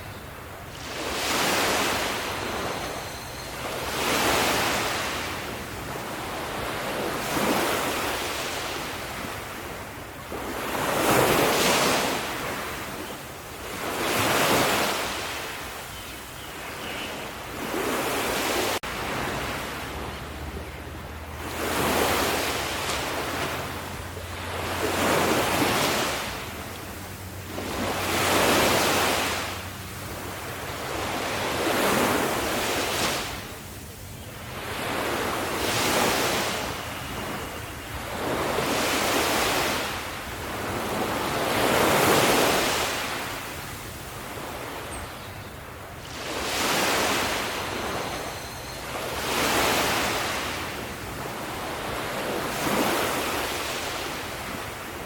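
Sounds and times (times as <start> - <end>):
ocean waves washing onto beach: 0.0 - 55.0.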